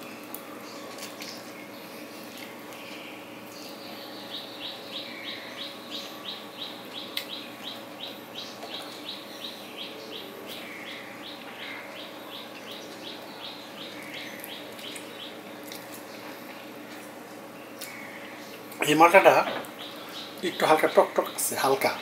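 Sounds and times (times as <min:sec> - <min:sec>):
faint steady hum: 0:00.0 - 0:22.0
bird chirping: 0:02.8 - 0:16.2, 0:17.6 - 0:22.0.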